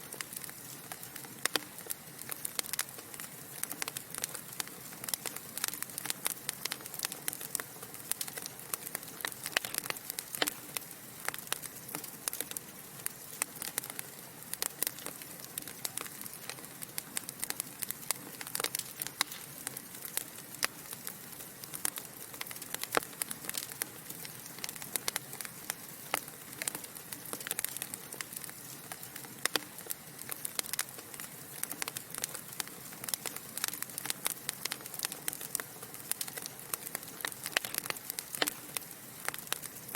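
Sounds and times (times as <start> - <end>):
burning logs crackling: 0.0 - 39.9.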